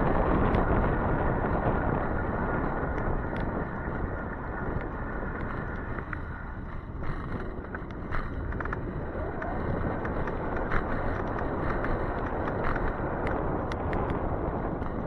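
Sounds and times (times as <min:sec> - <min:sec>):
road noise: 0:00.0 - 0:15.0
rushing wind: 0:00.0 - 0:15.0
faint clicks: 0:02.8 - 0:15.0.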